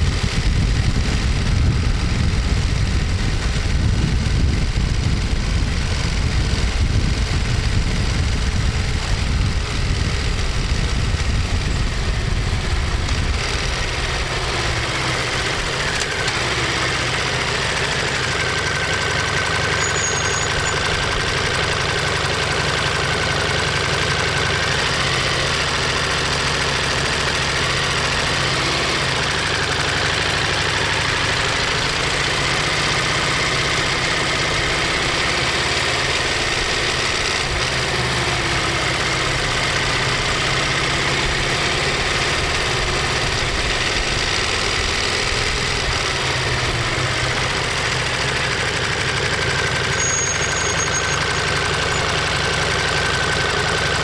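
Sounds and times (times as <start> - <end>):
motorcycle engine rumble: 0.0 - 54.0.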